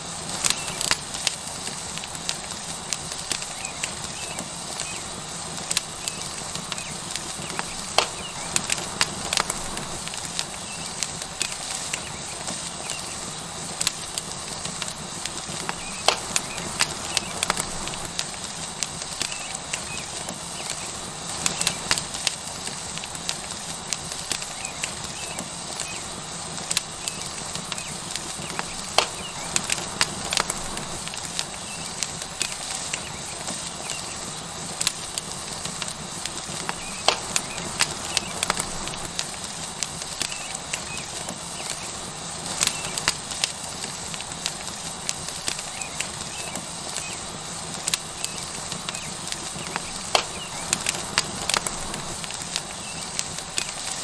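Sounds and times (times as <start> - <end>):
steak sizzling on hot rock: 0.0 - 54.0
wood fire popping and crackling: 0.0 - 54.0.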